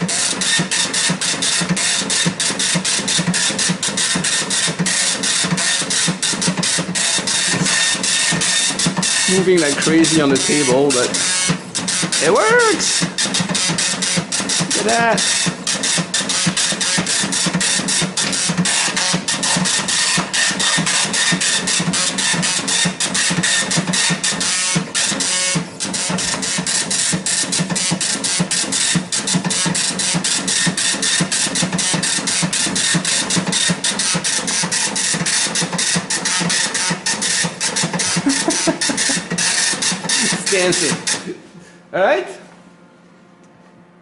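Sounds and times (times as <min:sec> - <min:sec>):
dot matrix printer rattling: 0:00.0 - 0:41.3.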